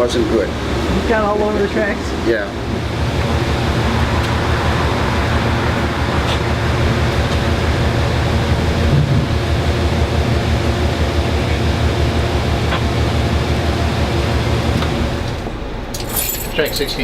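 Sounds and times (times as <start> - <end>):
diesel locomotive engine humming: 0.0 - 17.0.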